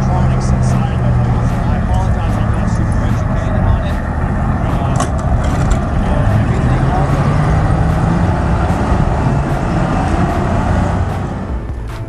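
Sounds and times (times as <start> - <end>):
military vehicle engine running: 0.0 - 12.0
tracks rumbling over dirt: 0.0 - 12.0.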